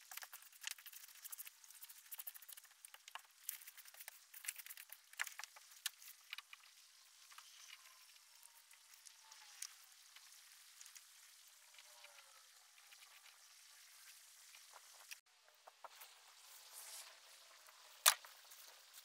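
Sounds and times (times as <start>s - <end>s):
faint clicks and crackles: 0.0s - 16.5s.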